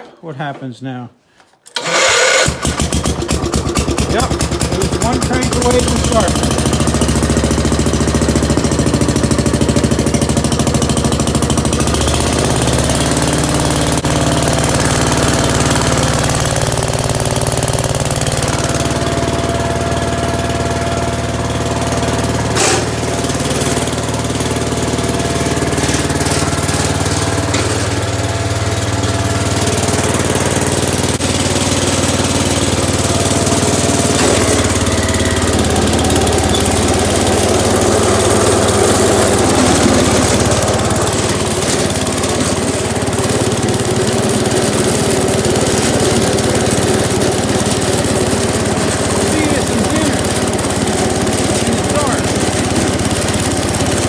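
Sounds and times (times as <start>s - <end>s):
garden tractor engine running: 1.7s - 54.0s.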